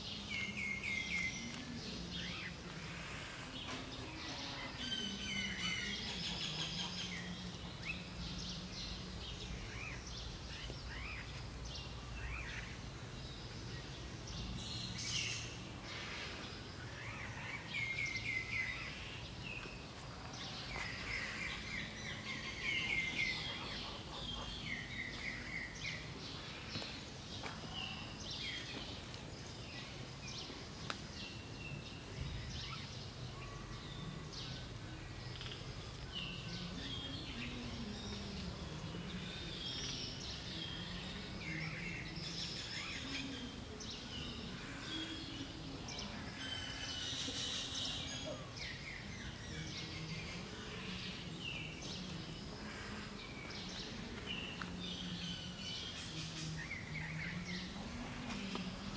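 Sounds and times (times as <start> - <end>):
outdoor background noise: 0.0 - 58.9
wild birds chirping and calling: 0.0 - 58.9.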